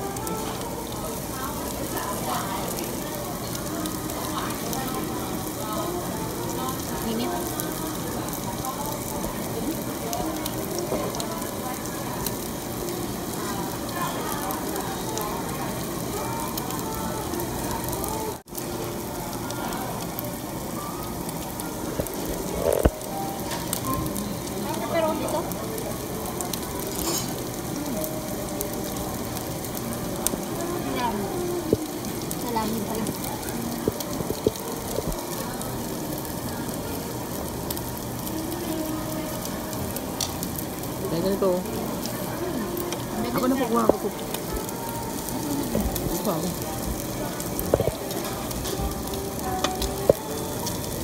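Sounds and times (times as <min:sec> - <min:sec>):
faint restaurant chatter: 0:00.0 - 0:51.0
meat sizzling on a grill: 0:00.0 - 0:51.0.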